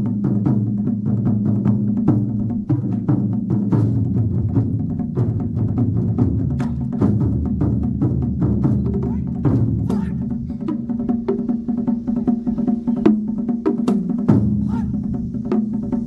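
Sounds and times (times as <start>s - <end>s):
large drums playing rapidly: 0.0s - 16.0s.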